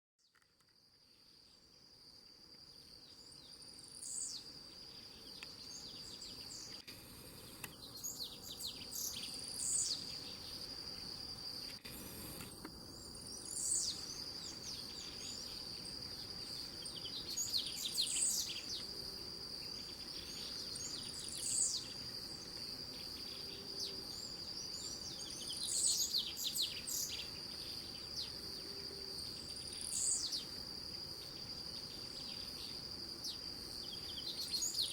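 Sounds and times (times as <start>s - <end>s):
high-pitched insect trill: 1.0s - 34.9s
songbird singing: 1.0s - 34.9s.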